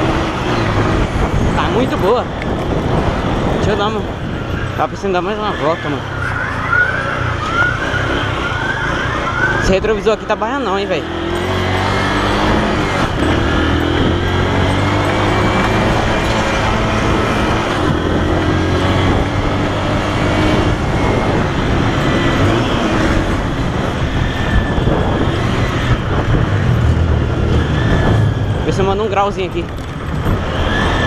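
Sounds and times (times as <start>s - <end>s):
wind noise on microphone: 0.0s - 6.1s, 11.2s - 31.0s
motorcycle engine revving through gears: 0.0s - 31.0s.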